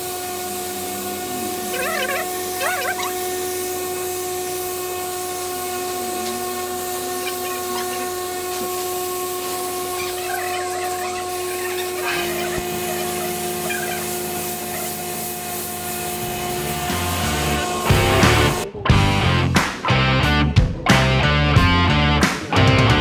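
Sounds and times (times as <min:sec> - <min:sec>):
hiss: 0:00.0 - 0:18.6
power tool whining: 0:00.0 - 0:18.7.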